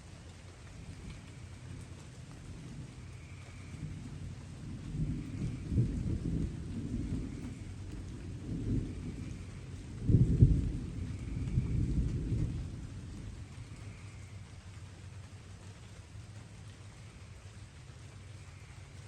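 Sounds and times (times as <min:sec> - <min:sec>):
light rain hiss: 0:00.0 - 0:19.0
distant thunder rumbling: 0:00.6 - 0:19.0.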